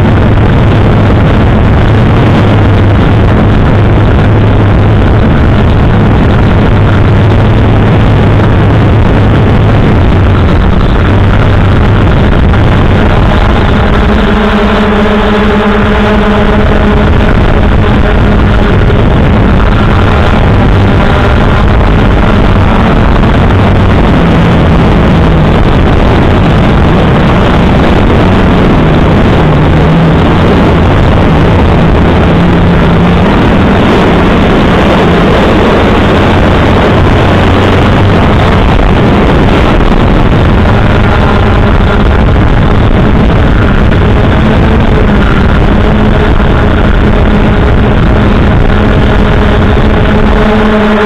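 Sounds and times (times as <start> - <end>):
drone motors and propellers: 0.0 - 51.0.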